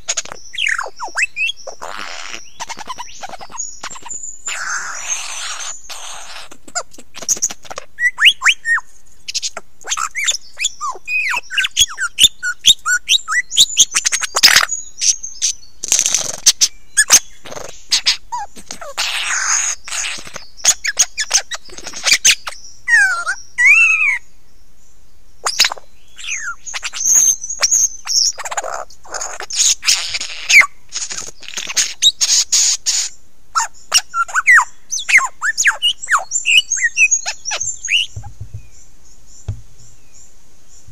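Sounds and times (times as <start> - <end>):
lyrebird singing: 0.0 - 24.3, 25.4 - 40.9.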